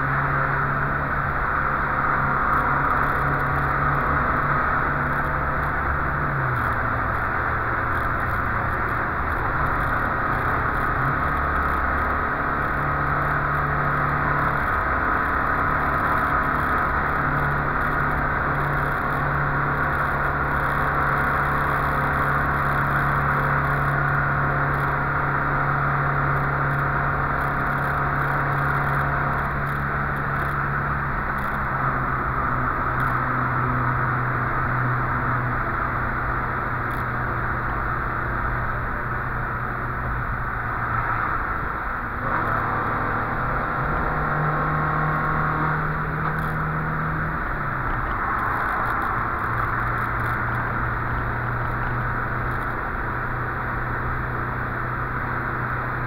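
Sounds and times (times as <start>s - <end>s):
car engine pulling: 0.0s - 56.0s
road and wind noise: 0.0s - 56.0s.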